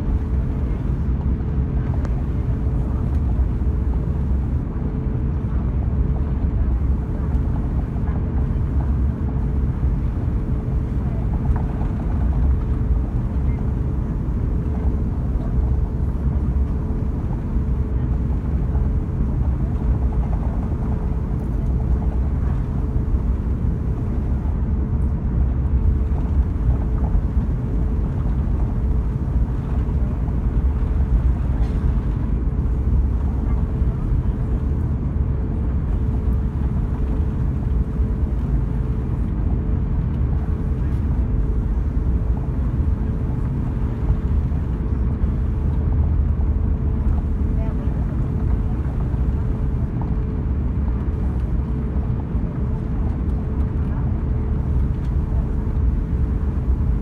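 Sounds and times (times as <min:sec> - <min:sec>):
aircraft engines low rumble: 0:00.0 - 0:57.0
mid-pitched hum: 0:00.0 - 0:57.0.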